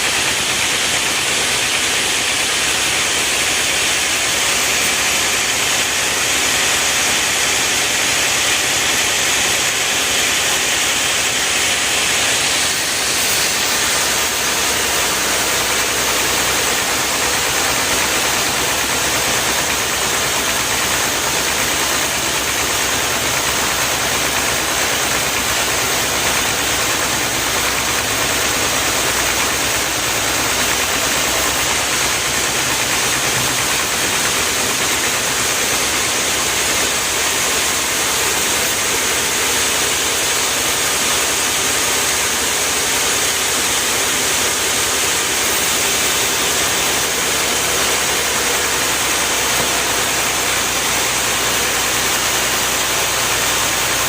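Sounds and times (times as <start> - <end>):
log-cutting machinery running: 0.0 - 54.0.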